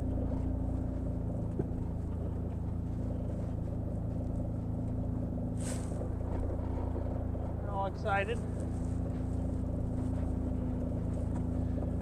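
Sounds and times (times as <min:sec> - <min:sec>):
utility vehicle engine running: 0:00.0 - 0:12.0.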